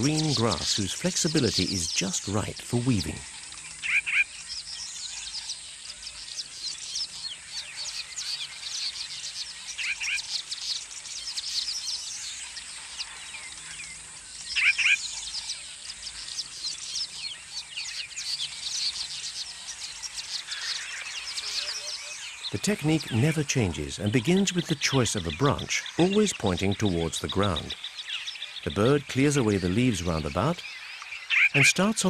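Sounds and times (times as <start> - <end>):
birds chirping in chorus: 0.0 - 32.0.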